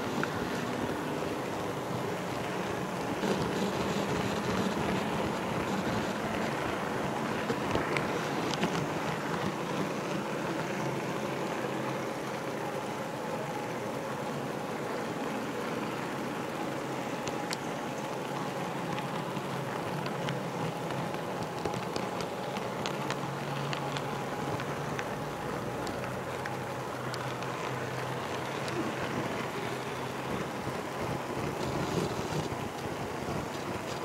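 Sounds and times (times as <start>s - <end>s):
model train rolling on track: 0.0s - 34.0s
wheels clicking over rail joints: 0.0s - 34.0s.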